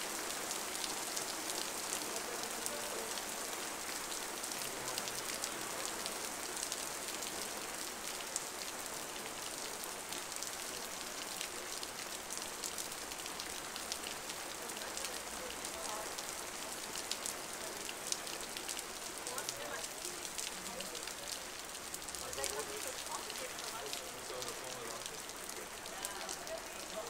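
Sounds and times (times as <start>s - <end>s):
heavy rain on a street: 0.0s - 27.0s.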